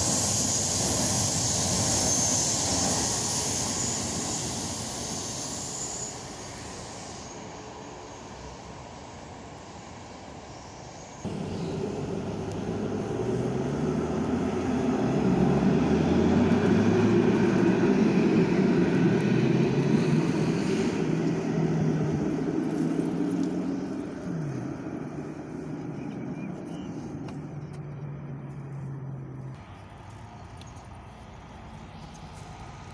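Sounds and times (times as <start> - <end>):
distant train rolling past: 0.0 - 32.9
tram traction motors whining: 0.0 - 32.9
wheels rumbling on rail: 0.0 - 32.9.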